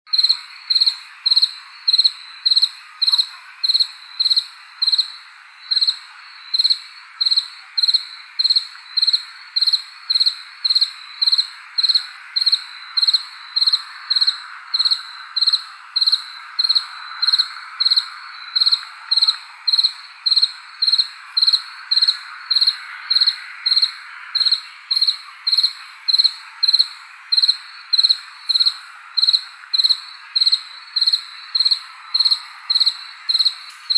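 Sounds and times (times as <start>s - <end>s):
background hiss: 0.1s - 33.9s
cricket chirping: 0.1s - 33.9s.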